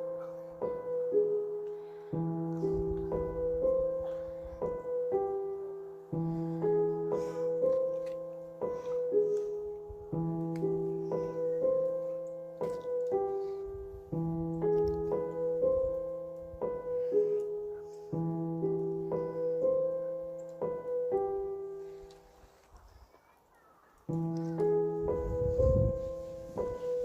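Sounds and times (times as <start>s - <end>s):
gentle piano piece: 0.0s - 27.0s.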